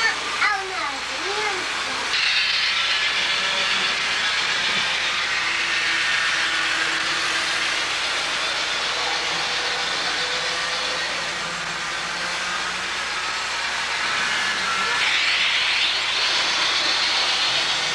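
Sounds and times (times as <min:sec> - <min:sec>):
model train running: 0:00.0 - 0:17.9.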